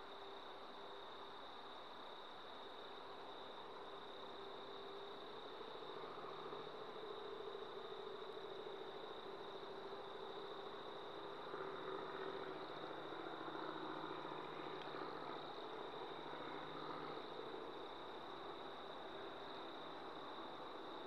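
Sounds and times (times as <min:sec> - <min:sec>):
faint vehicle engine hum: 0:00.0 - 0:21.0.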